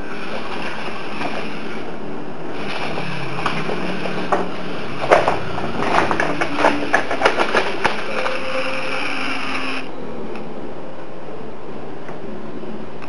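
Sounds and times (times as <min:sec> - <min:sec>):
faint motor whine: 0:00.0 - 0:13.0.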